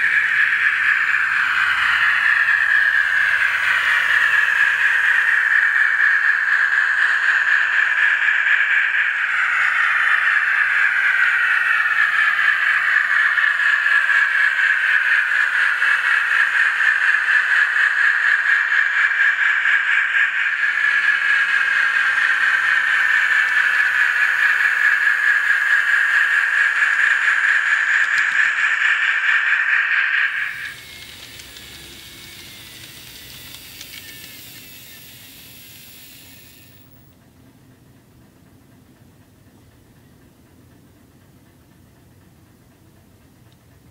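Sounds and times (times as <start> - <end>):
hissing steam locomotive sounds: 0.0 - 37.2.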